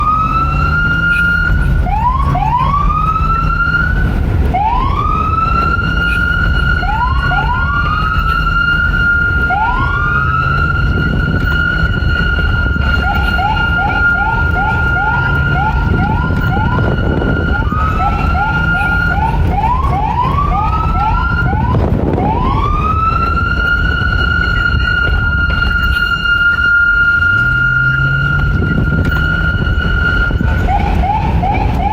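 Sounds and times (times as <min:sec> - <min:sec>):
low rumble: 0:00.0 - 0:31.9
police siren wailing: 0:00.0 - 0:31.9
siren yelp chirps: 0:00.0 - 0:31.9.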